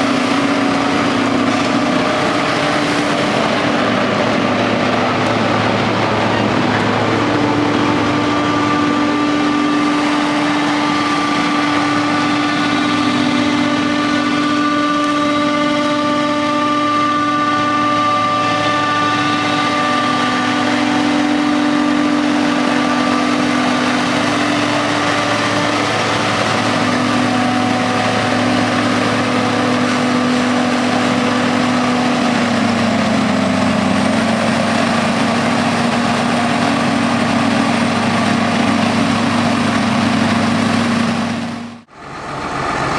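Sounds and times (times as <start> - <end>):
forage harvester engine drone: 0.0 - 42.9
held whining tones: 0.0 - 42.9.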